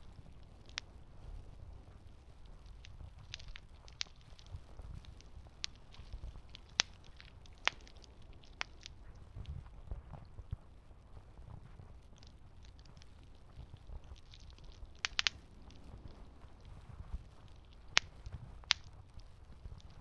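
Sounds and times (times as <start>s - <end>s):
campfire pops and snaps: 0.0s - 1.0s, 1.8s - 9.6s, 12.0s - 20.0s
low rumble of burning fire: 0.0s - 20.0s.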